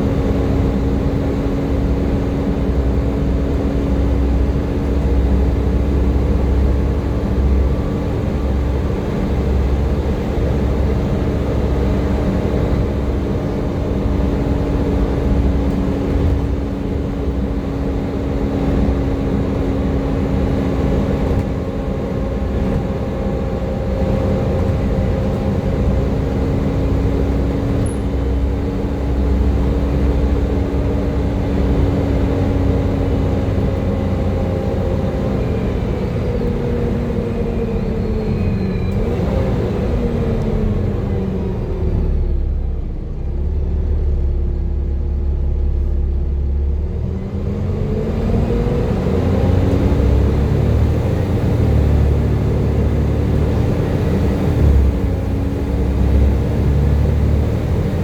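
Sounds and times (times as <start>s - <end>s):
bus engine whine and rumble: 0.0s - 58.0s.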